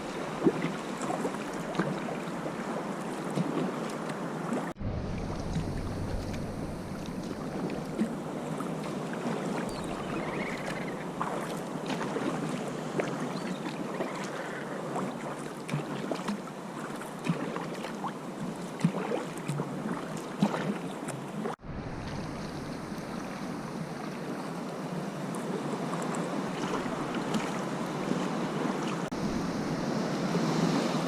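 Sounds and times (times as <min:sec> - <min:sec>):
water splashing around kayak: 0:00.0 - 0:31.0.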